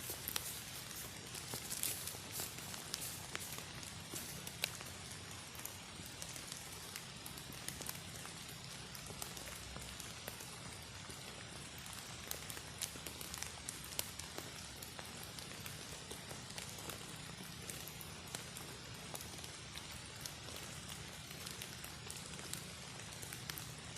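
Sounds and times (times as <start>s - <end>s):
sharp drip ticks: 0.0s - 23.8s
rain pattering: 0.0s - 23.9s.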